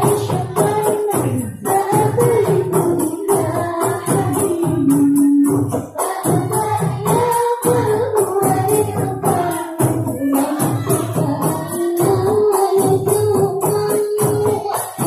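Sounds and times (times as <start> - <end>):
frame drums and tambourine: 0.0 - 15.0
girls singing: 0.0 - 15.0.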